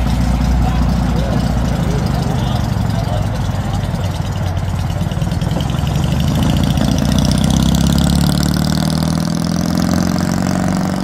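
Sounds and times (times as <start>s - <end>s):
race car engine running: 0.0s - 11.0s.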